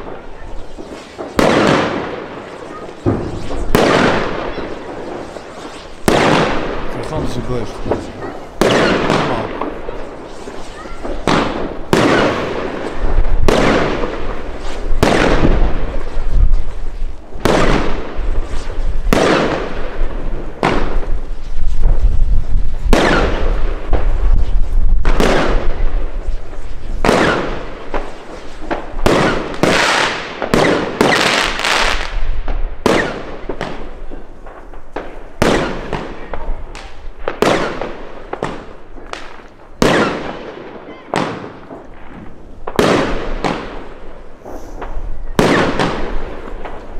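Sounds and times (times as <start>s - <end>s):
firework bangs echoing: 0.0s - 46.9s.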